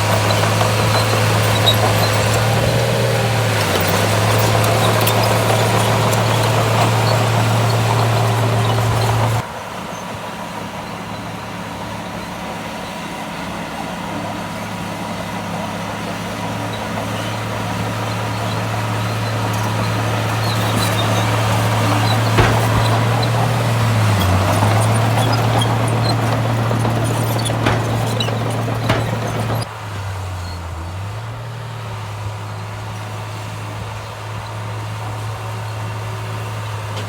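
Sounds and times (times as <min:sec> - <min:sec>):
heavy machinery diesel engine: 0:00.0 - 0:37.0.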